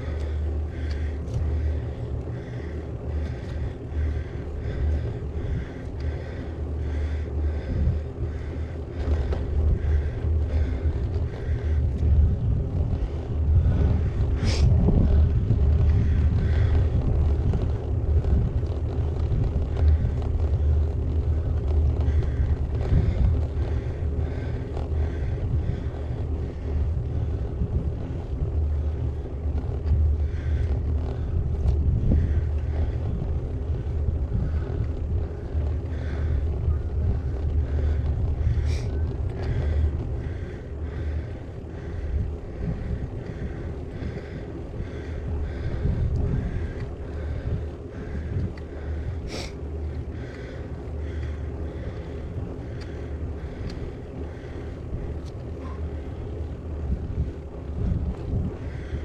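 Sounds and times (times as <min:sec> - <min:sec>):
bike tyres rolling on tarmac: 0:00.0 - 0:59.0
wind buffeting microphone: 0:00.0 - 0:59.0.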